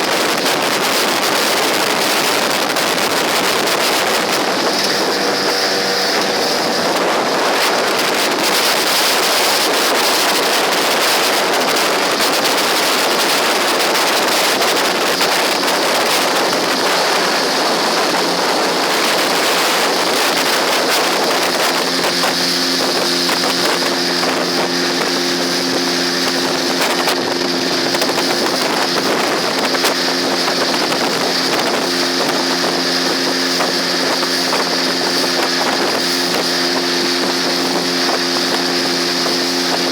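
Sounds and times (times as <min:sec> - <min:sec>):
outboard motor running: 0:00.0 - 0:39.9
wind rushing over microphone: 0:00.0 - 0:39.9.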